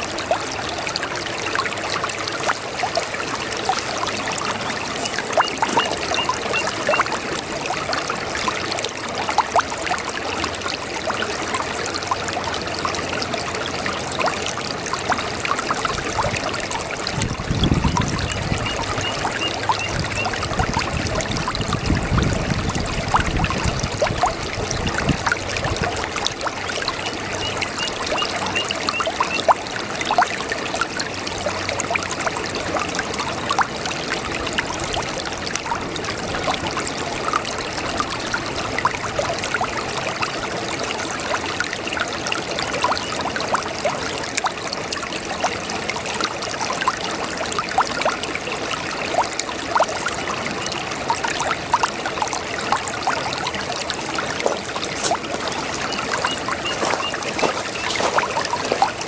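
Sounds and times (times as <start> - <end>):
brook water trickling and gurgling: 0.0 - 59.0
small water splashes: 0.0 - 59.0.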